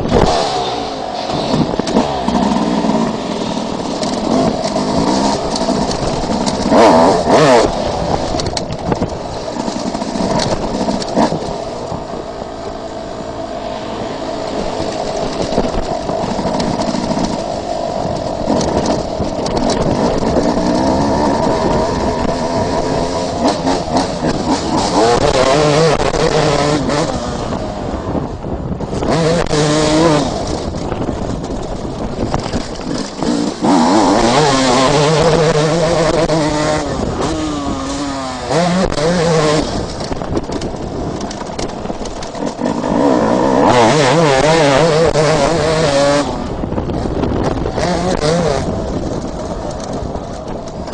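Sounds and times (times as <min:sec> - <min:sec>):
motocross engine revving: 0:00.0 - 0:50.9.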